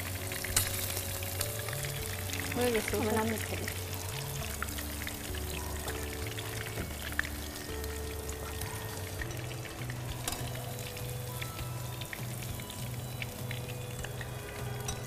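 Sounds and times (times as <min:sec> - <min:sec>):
chicken frying in hot oil: 0:00.0 - 0:15.0
soft background music: 0:00.0 - 0:15.0.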